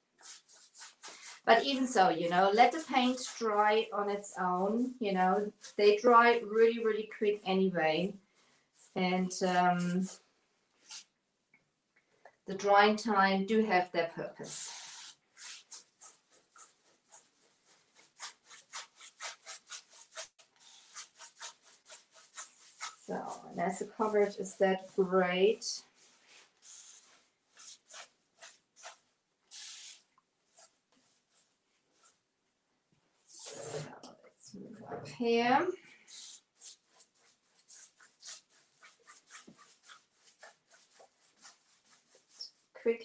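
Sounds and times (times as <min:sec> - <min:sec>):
paintbrush scrubbing rough wood: 0:00.0 - 0:10.2, 0:14.4 - 0:32.2, 0:33.3 - 0:33.9, 0:36.0 - 0:43.0.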